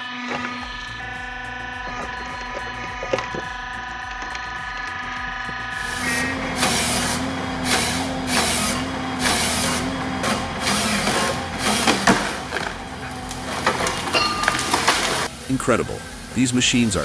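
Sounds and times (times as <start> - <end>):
heavy machine engine hum: 0.0 - 17.0
loud hissing bursts: 0.0 - 17.0.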